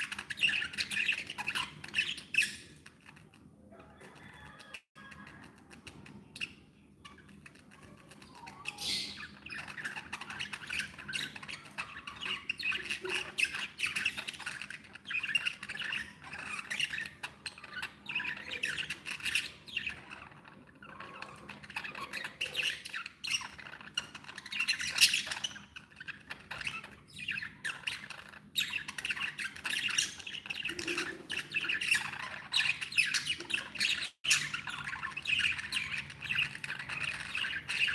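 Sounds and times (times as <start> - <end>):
budgerigars chattering: 0.0 - 2.9, 5.1 - 37.9.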